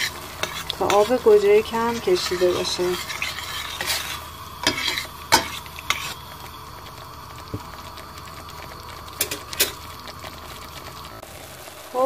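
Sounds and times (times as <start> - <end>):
tomato sauce sizzling in pan: 0.0 - 12.0.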